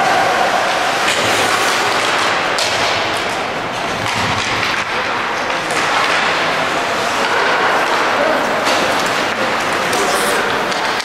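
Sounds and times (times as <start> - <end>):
crowd din in arena: 0.0 - 11.0.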